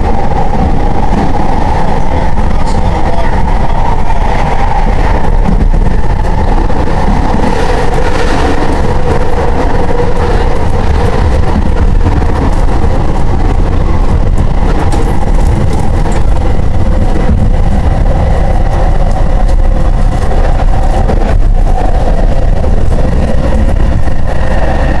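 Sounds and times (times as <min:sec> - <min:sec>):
train car rumbling: 0:00.0 - 0:25.0.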